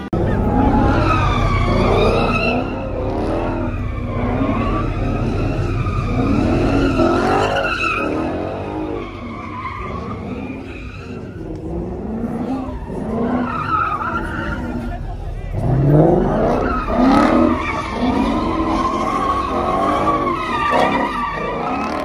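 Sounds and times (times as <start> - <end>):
car engine revving: 0.0 - 22.0
tyres squealing: 0.0 - 22.0.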